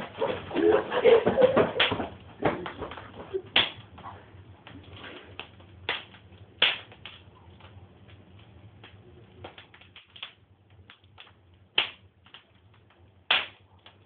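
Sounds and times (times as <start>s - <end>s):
wood fire crackling: 0.0s - 14.0s
sharp fire pops: 1.7s - 14.0s.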